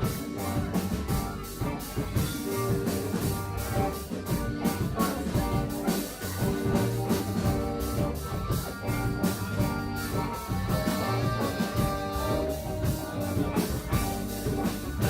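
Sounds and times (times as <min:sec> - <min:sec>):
drum kit beat: 0:00.0 - 0:15.0
guitar: 0:00.0 - 0:15.0.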